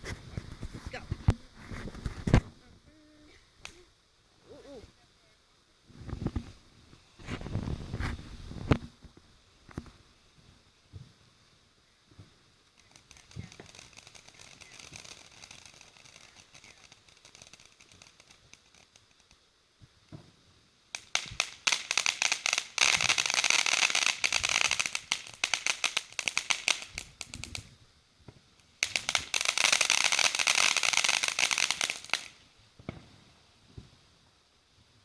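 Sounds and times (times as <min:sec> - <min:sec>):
fireworks crackling: 0:00.0 - 0:34.5
faint hiss: 0:00.0 - 0:35.0.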